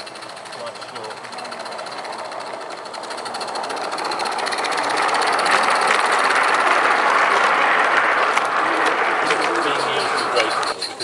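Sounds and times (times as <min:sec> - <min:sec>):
steam locomotive chuffing: 0:00.0 - 0:11.0
wagons rolling over rails: 0:00.0 - 0:11.0.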